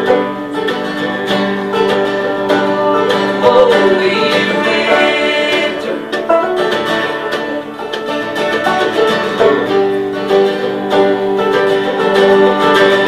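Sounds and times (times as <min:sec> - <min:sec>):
acoustic country band music: 0:00.0 - 0:13.0.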